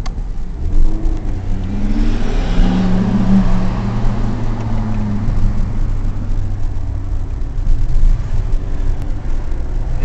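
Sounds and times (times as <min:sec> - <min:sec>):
sports car exhaust accelerating: 0:00.0 - 0:10.0.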